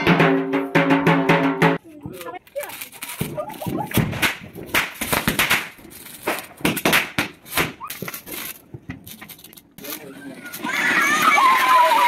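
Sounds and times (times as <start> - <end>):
fireworks crackling and popping: 1.8 - 12.0.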